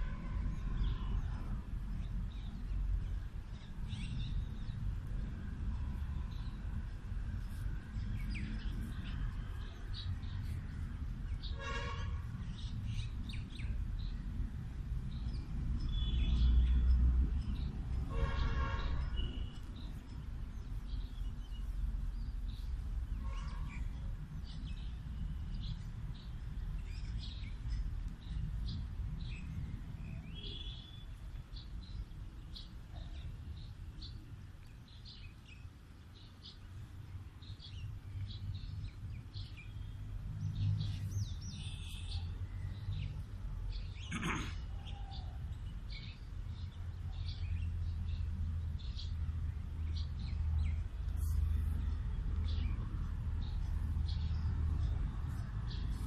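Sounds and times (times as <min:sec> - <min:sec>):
small birds chirping: 0:00.5 - 0:56.0.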